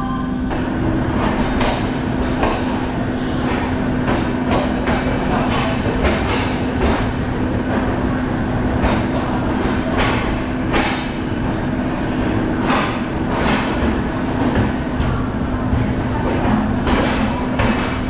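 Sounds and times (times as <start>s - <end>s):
train rumble and hum: 0.0s - 18.0s
wheels clacking over rail joints: 0.5s - 18.0s.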